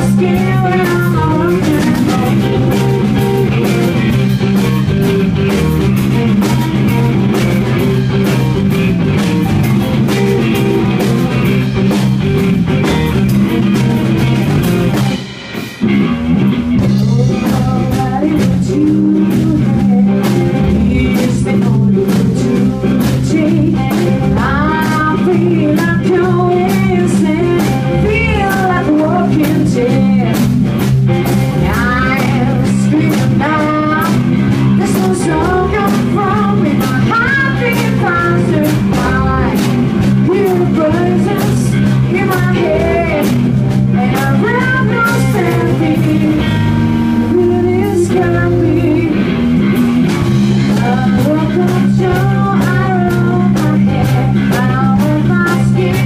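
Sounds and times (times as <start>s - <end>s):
drum kit with cymbals: 0.0s - 56.0s
electric bass: 0.0s - 56.0s
electric guitar lead: 0.0s - 56.0s.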